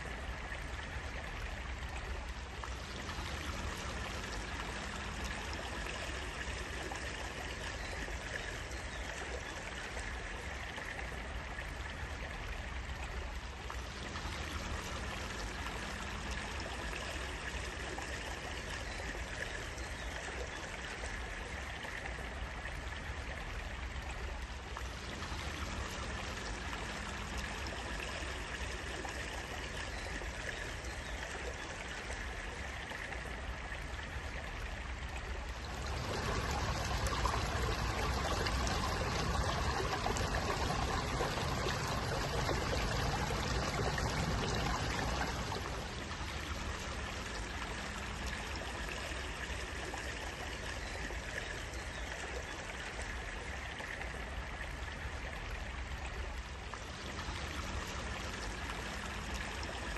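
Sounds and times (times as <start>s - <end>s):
stream water rushing and trickling: 0.0s - 59.9s.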